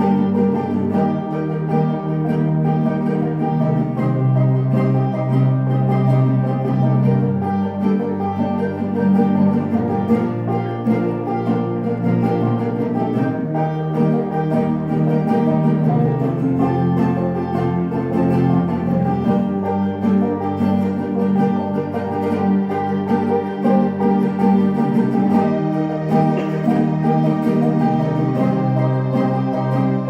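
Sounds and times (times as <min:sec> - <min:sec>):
acoustic string band playing: 0:00.0 - 0:30.0
banjo picking rapid notes: 0:00.0 - 0:30.0.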